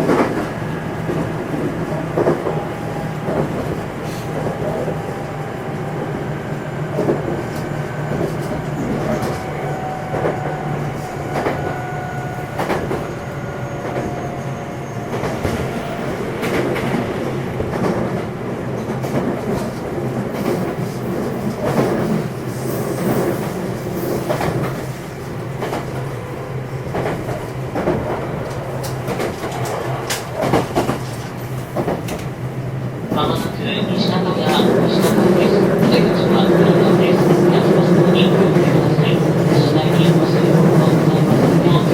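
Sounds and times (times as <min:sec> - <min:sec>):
train rolling noise: 0:00.0 - 0:41.9.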